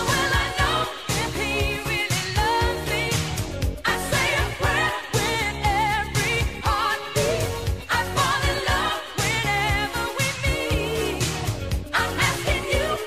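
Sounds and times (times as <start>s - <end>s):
drum beat and bass line: 0.0s - 13.0s
wavering singing voice: 0.0s - 13.0s.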